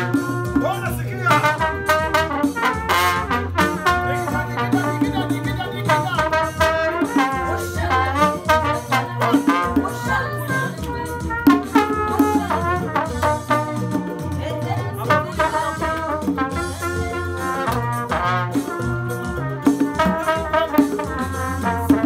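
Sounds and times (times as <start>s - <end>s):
percussion beat: 0.0s - 22.0s
trumpet and trombone playing: 0.0s - 22.0s.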